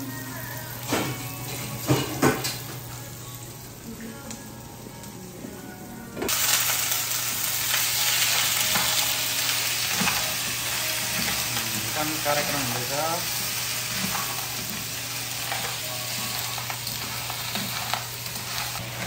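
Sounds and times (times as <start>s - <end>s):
food sizzling in a pan: 0.0s - 5.1s, 6.3s - 19.0s.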